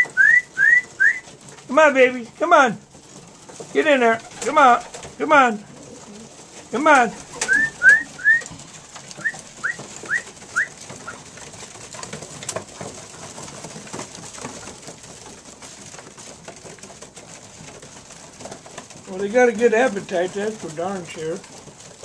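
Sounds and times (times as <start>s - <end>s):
pigeons chirping: 0.0s - 22.0s
soft low pigeon sounds: 0.0s - 22.0s.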